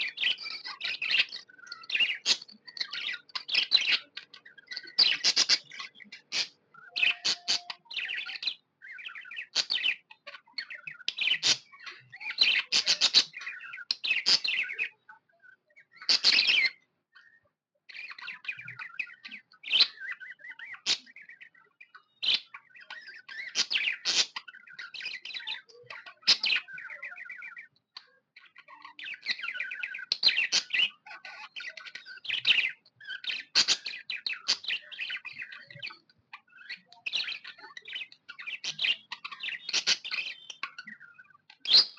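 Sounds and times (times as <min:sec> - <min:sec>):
budgie chirping and chattering: 0:00.0 - 0:16.8, 0:17.9 - 0:41.9.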